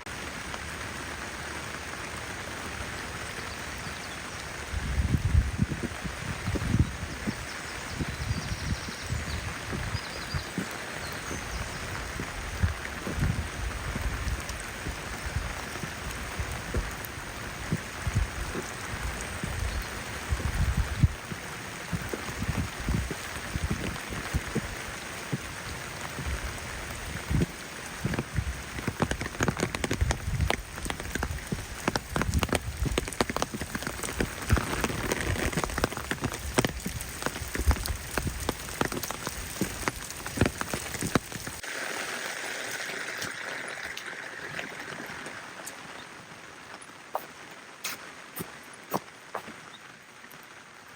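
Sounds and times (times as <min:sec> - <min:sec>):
patter of close raindrops: 0:00.0 - 0:50.9
steady rain falling: 0:00.0 - 0:50.9.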